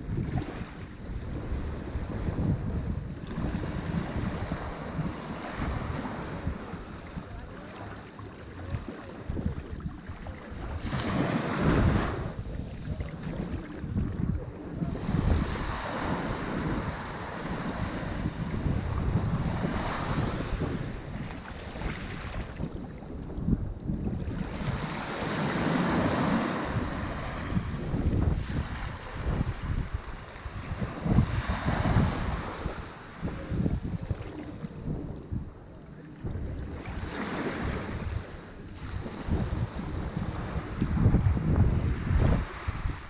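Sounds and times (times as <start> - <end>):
ocean waves breaking on shore: 0.0 - 43.0
wind buffeting microphone: 0.0 - 43.0.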